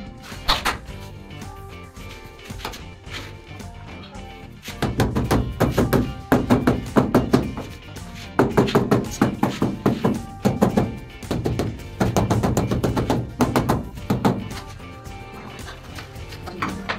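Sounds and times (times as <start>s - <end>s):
background music with steady beat: 0.0s - 16.9s.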